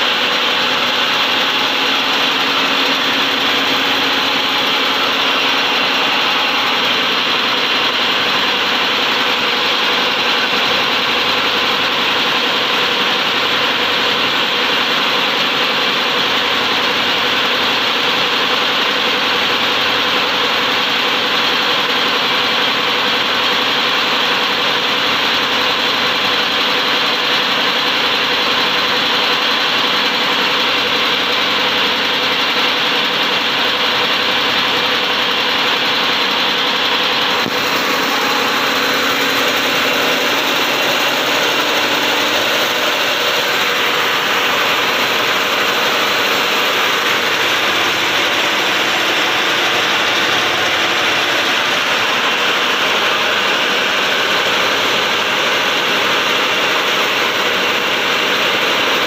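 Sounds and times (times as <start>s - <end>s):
constant machine hum: 0.0s - 59.0s
packing machine running: 0.0s - 59.0s.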